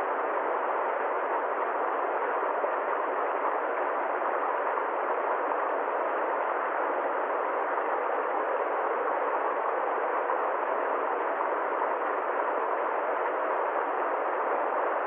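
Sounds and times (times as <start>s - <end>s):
steady muffled hiss: 0.0s - 15.0s.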